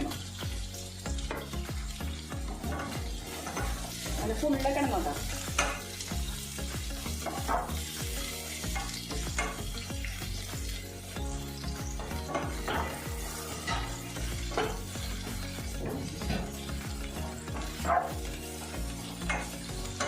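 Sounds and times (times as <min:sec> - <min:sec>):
vegetables sizzling in a pan: 0:00.0 - 0:20.0
spatula scraping a pan: 0:00.1 - 0:04.5, 0:05.1 - 0:10.9, 0:12.0 - 0:20.0.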